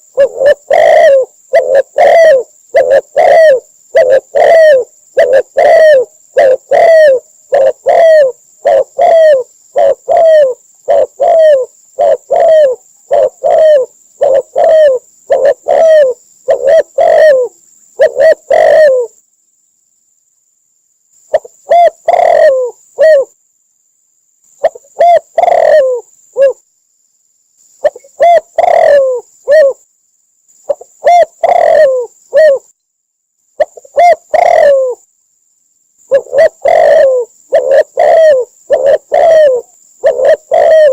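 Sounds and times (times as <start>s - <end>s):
dove cooing: 0.0s - 19.2s, 21.3s - 23.4s, 24.6s - 26.6s, 27.8s - 29.8s, 30.7s - 32.7s, 33.6s - 35.0s, 36.1s - 40.9s.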